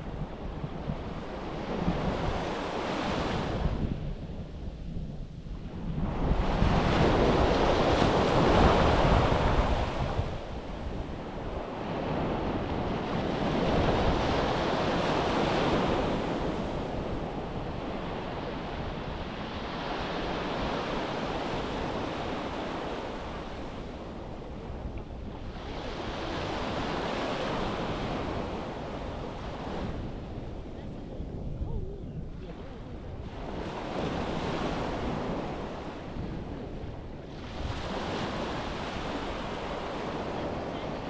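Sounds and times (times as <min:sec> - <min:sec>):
surf breaking on a beach: 0:00.0 - 0:41.0
wind buffeting microphone: 0:00.0 - 0:41.0.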